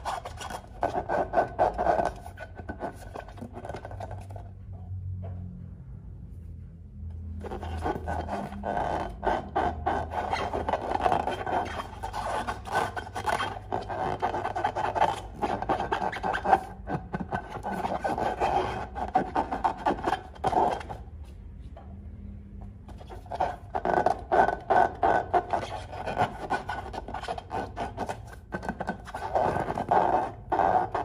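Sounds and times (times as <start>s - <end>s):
hands rubbing a balloon: 0.0s - 4.4s, 7.4s - 21.2s, 22.9s - 31.0s.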